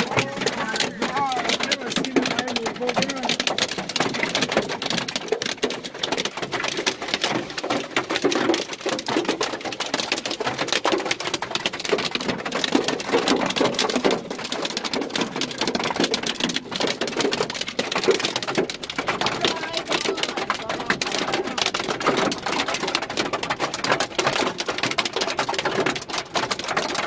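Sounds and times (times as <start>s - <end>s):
hail pelting a car roof: 0.0s - 27.0s.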